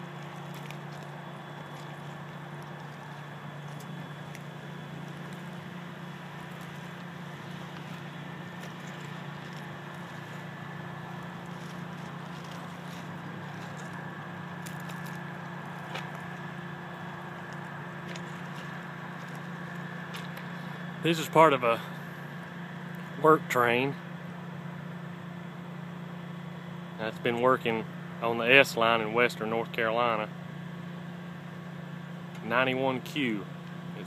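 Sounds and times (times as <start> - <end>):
diesel locomotive idling: 0.0 - 34.0.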